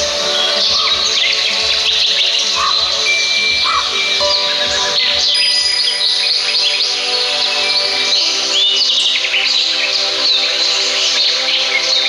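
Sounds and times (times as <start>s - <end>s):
background music held notes: 0.0s - 12.0s
birds chirping: 0.0s - 12.0s.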